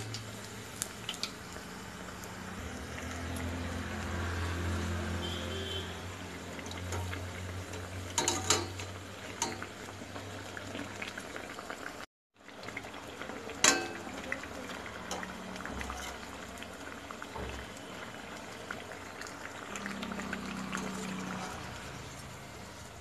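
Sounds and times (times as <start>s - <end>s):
food deep-frying in oil: 0.0s - 23.0s.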